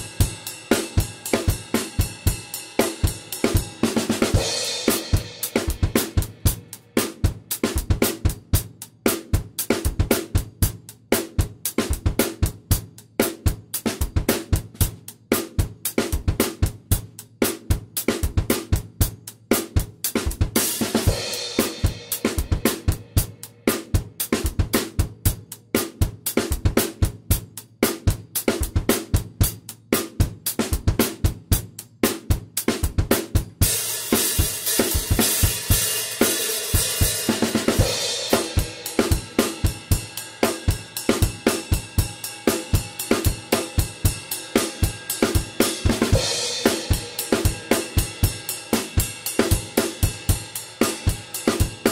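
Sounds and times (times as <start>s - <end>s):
drum kit rock beat: 0.0s - 51.9s.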